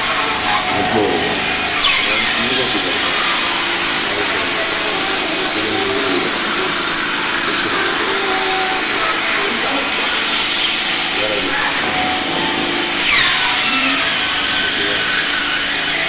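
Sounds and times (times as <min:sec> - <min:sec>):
band saw whirring: 0:00.0 - 0:16.0.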